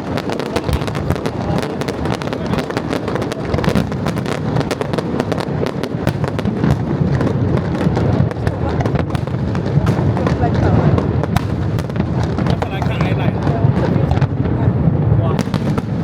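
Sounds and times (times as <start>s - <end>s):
deep fireworks booms: 0.0s - 16.0s
fireworks crackling and banging: 0.0s - 16.0s.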